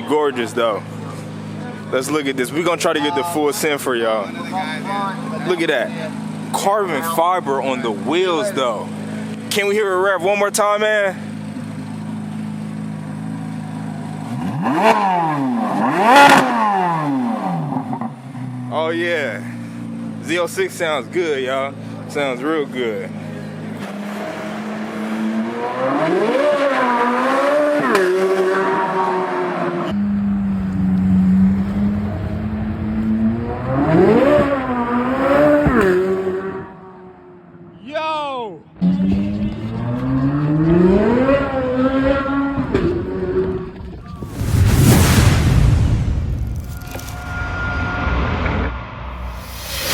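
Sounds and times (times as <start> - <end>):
car engine idling and revving: 0.0 - 37.8, 38.7 - 44.4.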